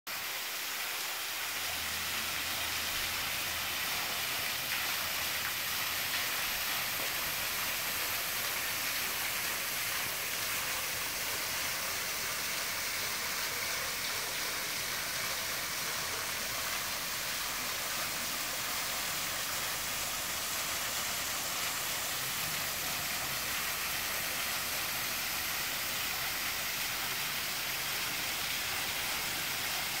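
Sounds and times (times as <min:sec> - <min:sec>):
small waterfall splashing: 0:00.1 - 0:30.0.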